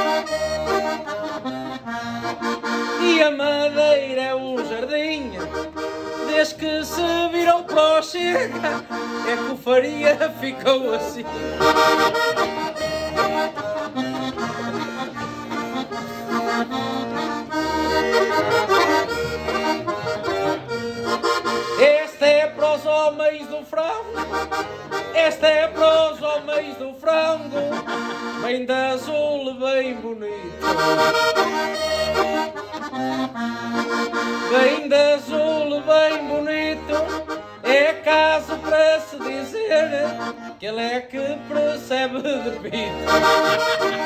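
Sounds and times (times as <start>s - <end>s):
button accordion melody: 0.0s - 44.0s.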